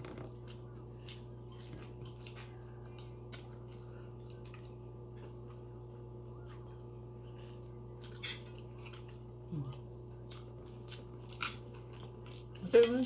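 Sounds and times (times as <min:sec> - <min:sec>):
person chewing food: 0:00.0 - 0:12.6.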